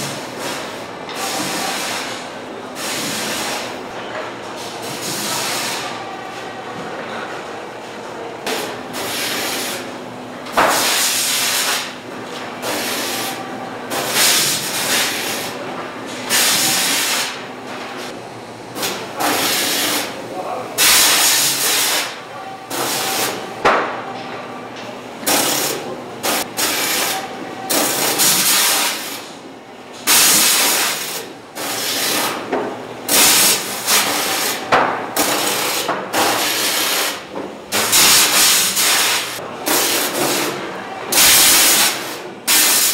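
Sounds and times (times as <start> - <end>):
machinery hum: 0.0 - 42.9.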